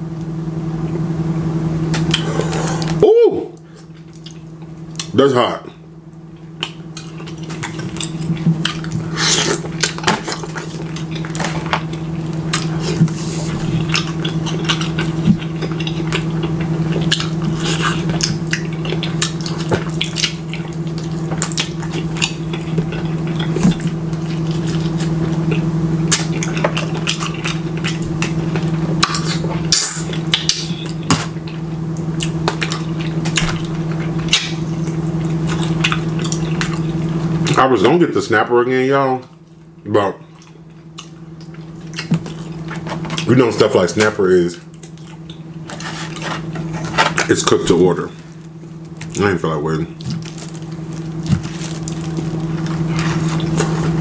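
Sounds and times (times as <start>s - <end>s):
steady low hum: 0.0s - 54.0s
chewing and wet mouth smacking: 1.9s - 3.0s, 3.8s - 5.2s, 6.3s - 37.6s, 40.3s - 49.3s, 50.0s - 54.0s.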